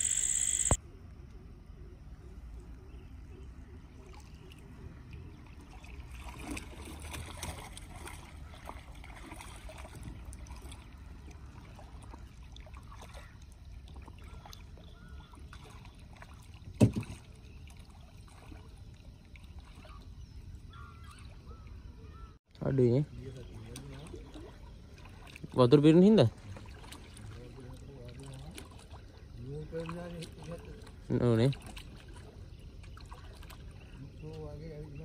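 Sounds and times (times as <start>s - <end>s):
water trickling and sloshing: 2.2s - 35.0s.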